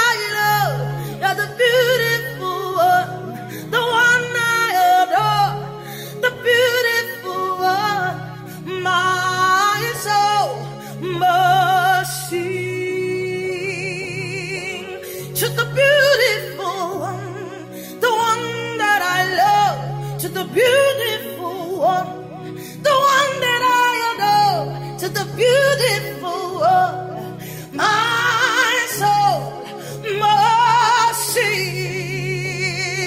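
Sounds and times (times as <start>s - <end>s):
person singing with vibrato: 0.0s - 33.0s.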